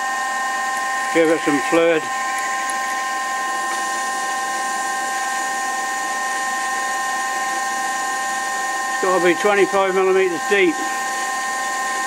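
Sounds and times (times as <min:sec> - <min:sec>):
lathe drilling whine: 0:00.0 - 0:12.0.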